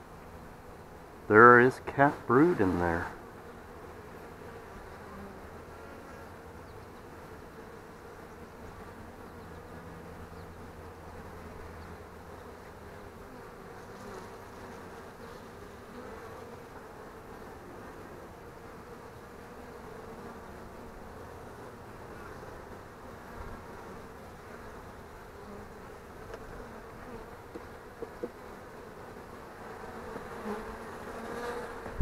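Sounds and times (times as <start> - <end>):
bees buzzing: 0.2 - 32.0.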